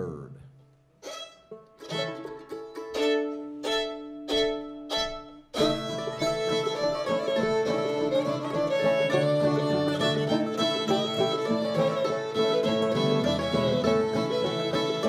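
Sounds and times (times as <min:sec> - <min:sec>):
string band playing fiddle tune: 0:01.0 - 0:15.0.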